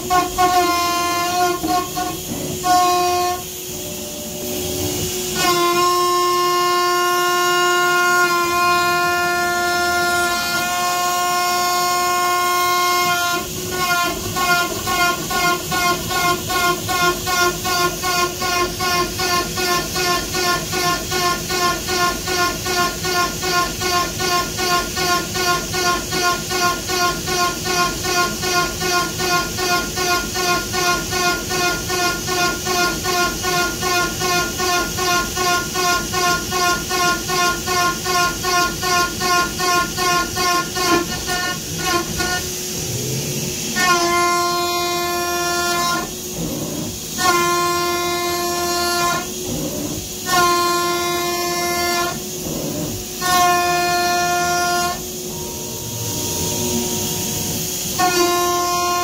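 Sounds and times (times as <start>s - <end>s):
cnc motors whining: 0.0s - 59.0s.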